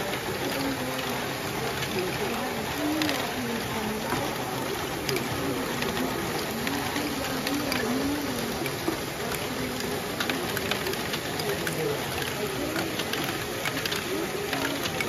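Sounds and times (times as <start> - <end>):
plastic balls clattering: 0.4 - 15.0.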